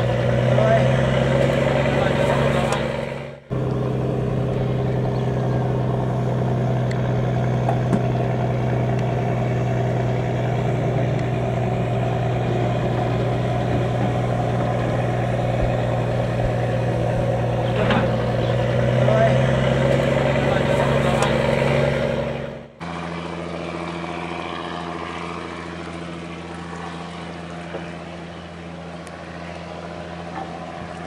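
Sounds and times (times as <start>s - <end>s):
boat diesel engine droning: 0.0s - 31.0s.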